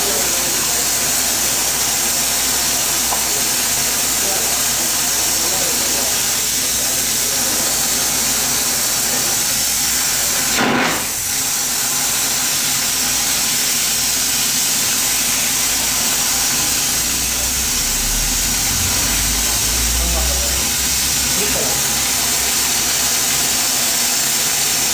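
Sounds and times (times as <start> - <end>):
torch flame hissing: 0.0 - 24.9.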